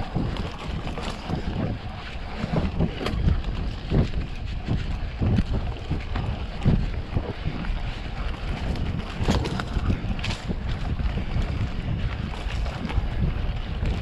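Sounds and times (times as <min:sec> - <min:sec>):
bike knocking and rattling: 0:00.0 - 0:14.0
tyres rumbling over dirt: 0:00.0 - 0:14.0
wind buffeting microphone: 0:00.0 - 0:14.0.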